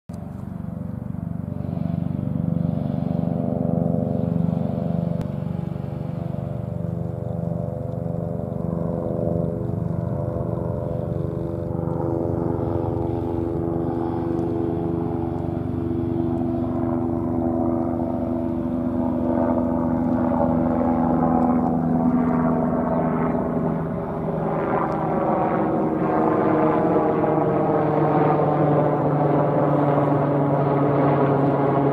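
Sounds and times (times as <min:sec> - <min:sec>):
droning helicopter engine: 0:00.1 - 0:31.9
helicopter rotor beat: 0:00.1 - 0:31.9.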